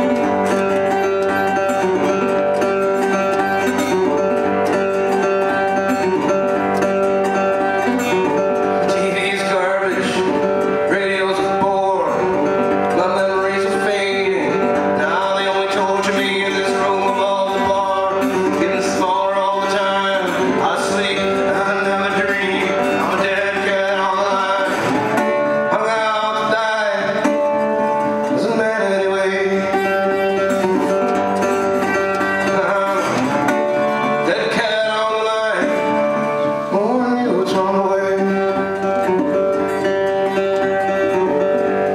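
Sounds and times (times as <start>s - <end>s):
acoustic guitar country-blues tune: 0.0s - 41.9s
person singing: 0.0s - 41.9s.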